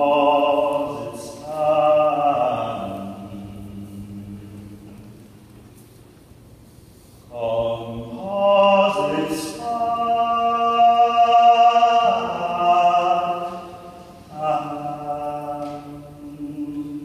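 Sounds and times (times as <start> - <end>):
vocal ensemble singing chords: 0.0 - 5.2, 7.3 - 17.0.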